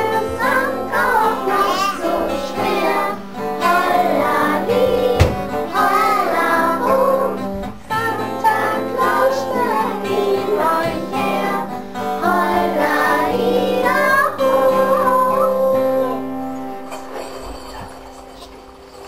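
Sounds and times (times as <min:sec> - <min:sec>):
children singing in unison: 0:00.0 - 0:17.8
instrumental accompaniment: 0:00.0 - 0:19.0.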